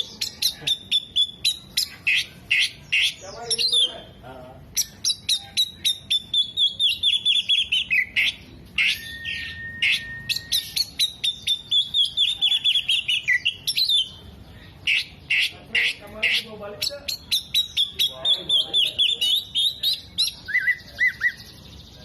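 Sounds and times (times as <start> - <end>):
bird singing: 0.0 - 22.0.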